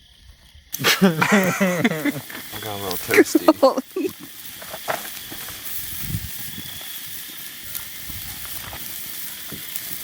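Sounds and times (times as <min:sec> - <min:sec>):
burgers sizzling on a grill: 0:00.0 - 0:10.0
fire crackling: 0:00.0 - 0:10.0.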